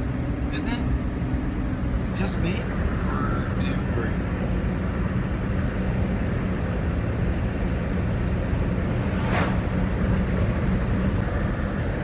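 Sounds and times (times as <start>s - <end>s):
road and wind noise inside car: 0.0s - 12.0s.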